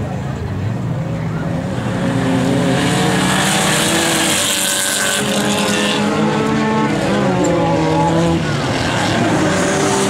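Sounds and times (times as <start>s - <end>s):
race car engine revving: 0.8s - 10.0s.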